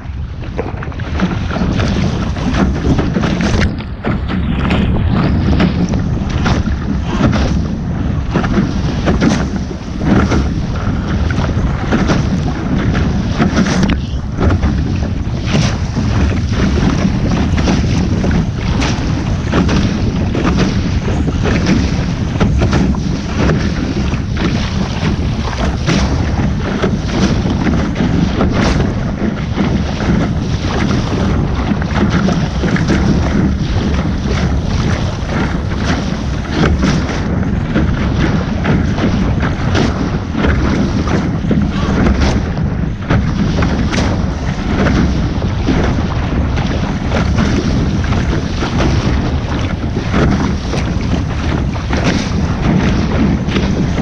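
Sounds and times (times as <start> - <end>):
wind blowing across microphone: 0.0 - 54.0.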